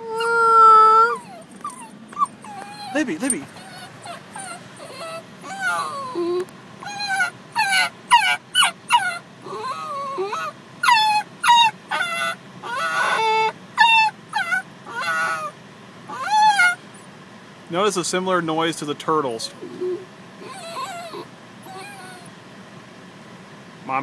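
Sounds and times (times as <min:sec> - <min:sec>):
dog whining and yelping: 0:00.0 - 0:17.0, 0:19.4 - 0:22.4.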